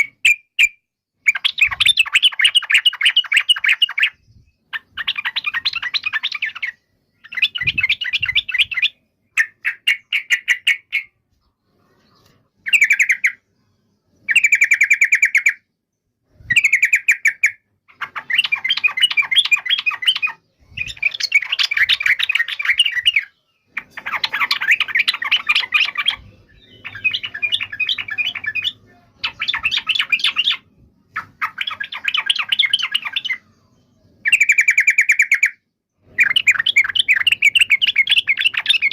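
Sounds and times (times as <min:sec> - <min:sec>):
bird singing bubbly chattering phrases: 0:00.0 - 0:11.2, 0:12.0 - 0:33.5, 0:34.1 - 0:38.9.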